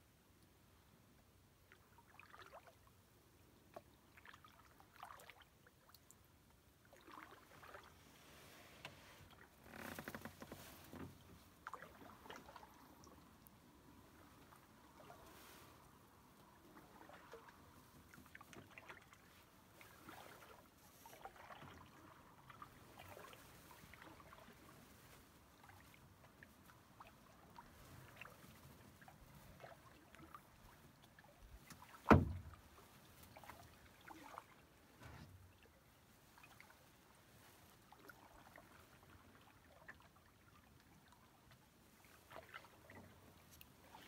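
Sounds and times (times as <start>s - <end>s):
paddle drips and splashes: 1.5s - 44.0s.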